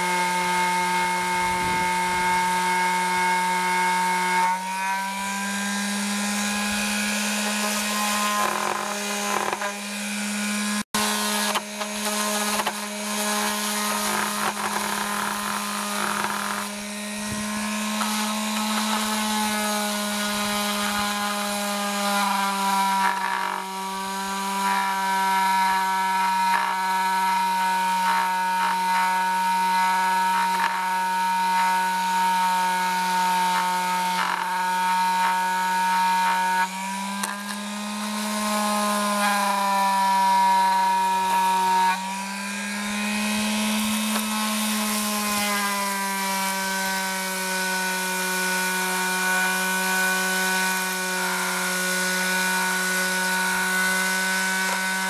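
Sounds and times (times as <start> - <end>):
electric sander on wood: 0.0 - 55.0.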